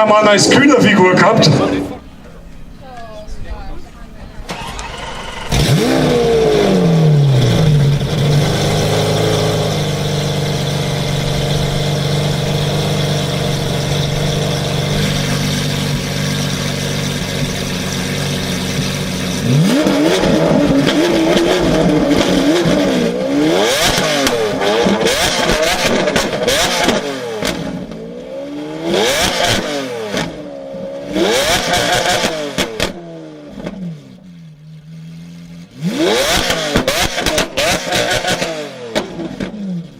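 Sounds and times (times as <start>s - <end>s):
sports car engine revving: 3.7s - 39.9s.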